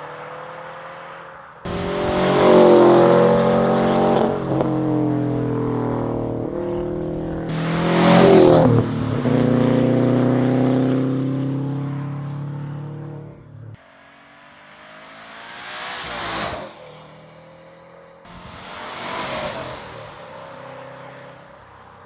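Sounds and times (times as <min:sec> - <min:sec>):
car engine revving loud exhaust: 0:00.0 - 0:17.1, 0:18.3 - 0:22.0.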